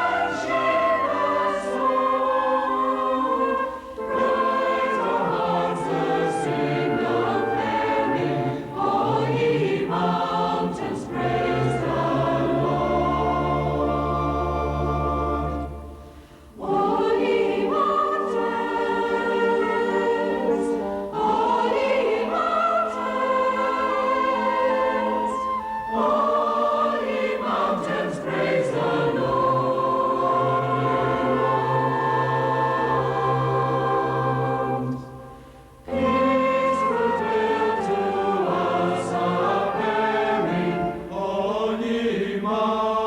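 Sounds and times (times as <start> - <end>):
choir singing: 0.0 - 43.0.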